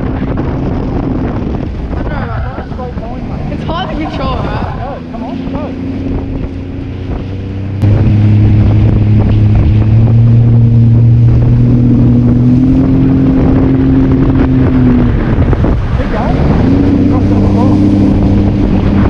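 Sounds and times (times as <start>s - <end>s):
jet ski engine droning: 0.0s - 19.0s.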